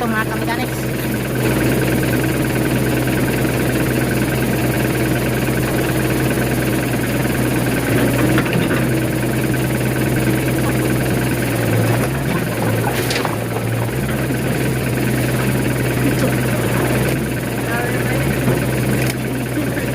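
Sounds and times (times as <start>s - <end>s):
diesel engine humming: 0.0s - 19.9s.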